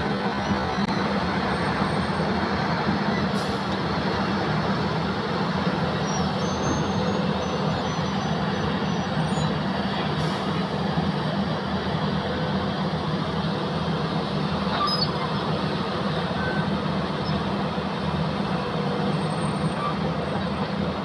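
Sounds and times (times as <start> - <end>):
heavy diesel engines droning: 0.0 - 21.0.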